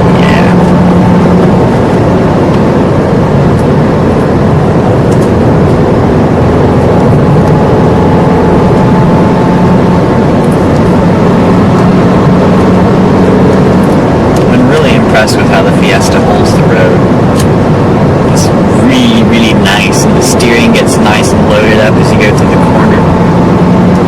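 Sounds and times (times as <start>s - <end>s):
car engine hum: 0.0s - 24.0s
road and tyre noise: 0.0s - 24.0s.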